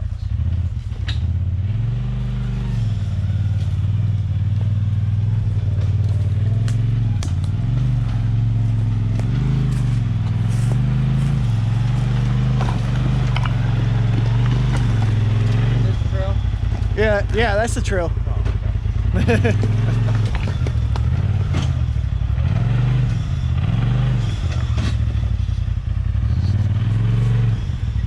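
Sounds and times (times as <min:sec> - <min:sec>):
utility vehicle engine under load: 0:00.0 - 0:28.0.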